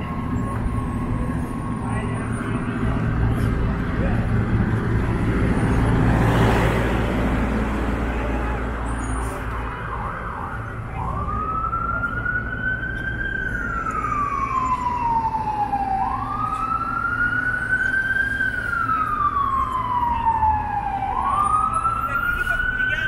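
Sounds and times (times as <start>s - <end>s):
emergency siren wailing: 0.0s - 23.0s
street traffic rumble: 0.0s - 23.0s.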